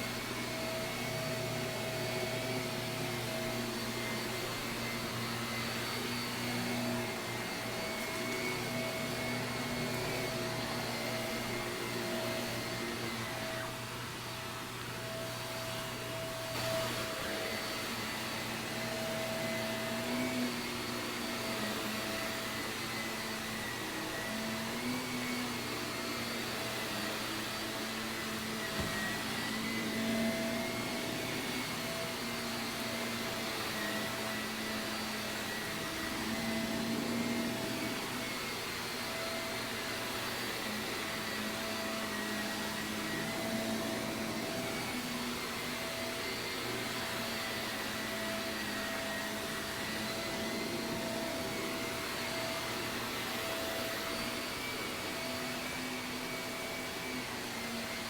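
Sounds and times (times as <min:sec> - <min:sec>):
vacuum cleaner on carpet: 0:00.0 - 0:58.0.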